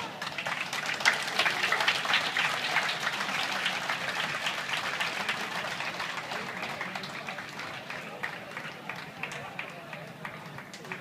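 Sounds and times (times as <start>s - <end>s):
spectators applauding: 0.0s - 11.0s.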